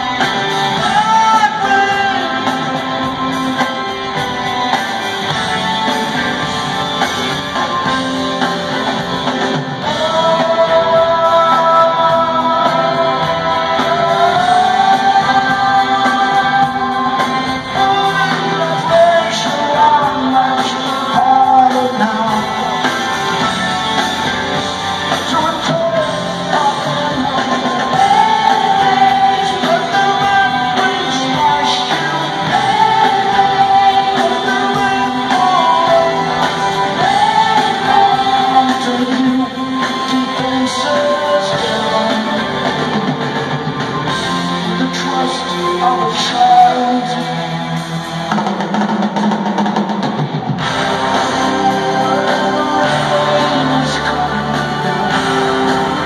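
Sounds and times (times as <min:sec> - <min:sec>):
person singing: 0:00.0 - 0:49.3, 0:50.6 - 0:56.0
live rock band: 0:00.0 - 0:56.0.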